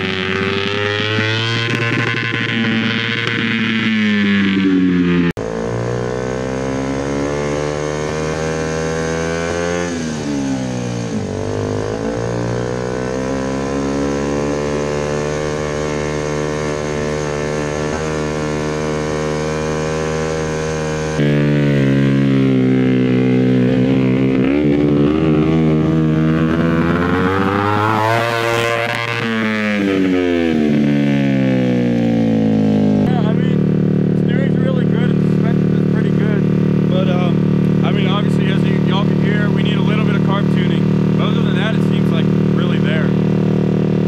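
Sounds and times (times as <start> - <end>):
kart engine revving: 0.0 - 44.0.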